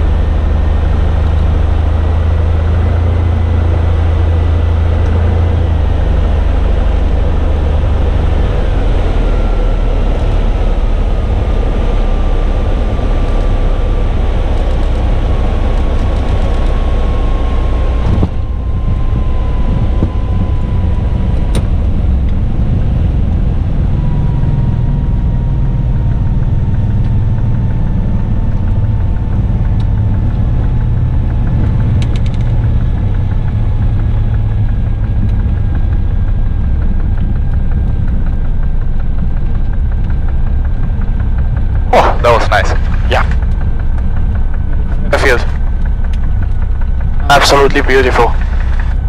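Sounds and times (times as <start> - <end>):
aircraft engine low drone: 0.0 - 49.0
faint falling whine: 0.0 - 49.0.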